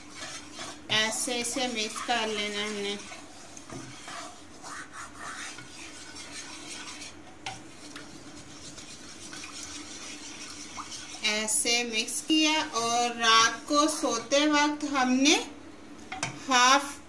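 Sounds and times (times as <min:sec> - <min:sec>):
wooden spoon stirring in metal pan: 0:00.0 - 0:14.9
faint steady hum: 0:00.0 - 0:17.0.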